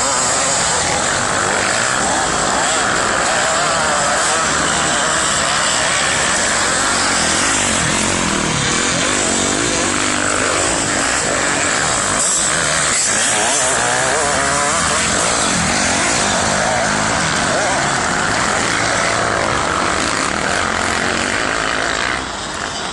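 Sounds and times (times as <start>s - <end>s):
loud steady rushing noise: 0.0s - 22.9s
motocross bike engines revving: 0.0s - 22.9s.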